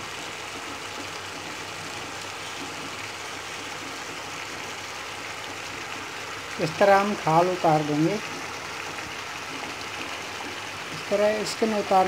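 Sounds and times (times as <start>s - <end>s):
pan simmering with bubbling hiss: 0.0s - 12.0s.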